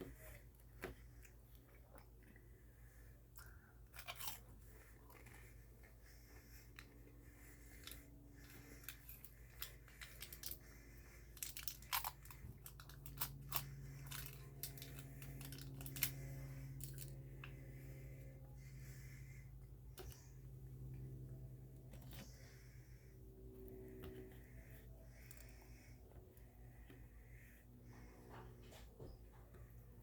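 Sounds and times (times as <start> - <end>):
chewing and crunching food: 0.0 - 30.0
low hum: 0.0 - 30.0.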